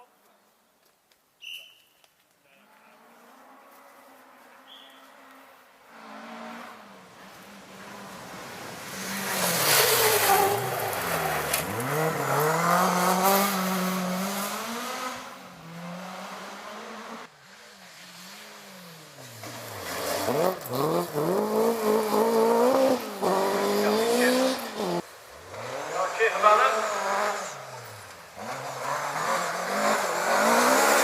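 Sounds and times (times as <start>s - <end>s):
rally car engine revving: 5.9s - 31.0s.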